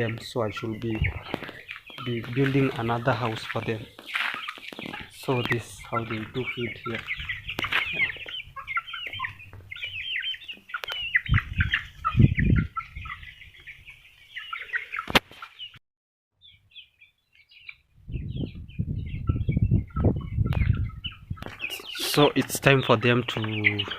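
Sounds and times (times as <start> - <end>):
chicks peeping: 0.0 - 15.8, 16.4 - 23.9.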